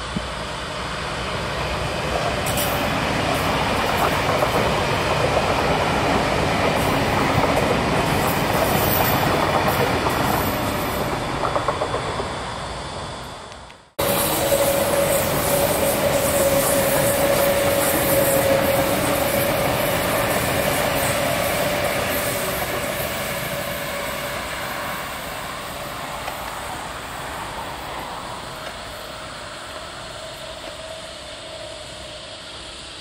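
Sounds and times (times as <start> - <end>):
train running past: 0.0 - 33.0.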